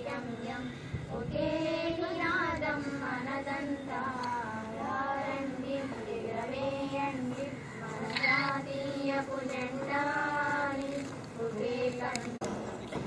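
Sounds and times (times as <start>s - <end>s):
children singing: 1.3s - 12.2s.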